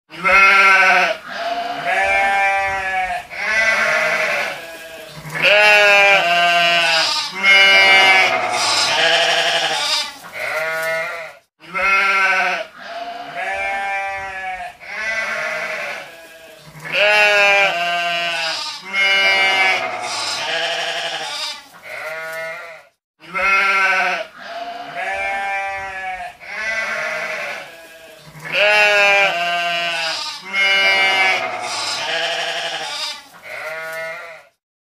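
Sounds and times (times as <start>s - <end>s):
sheep bleating: 0.1s - 34.6s.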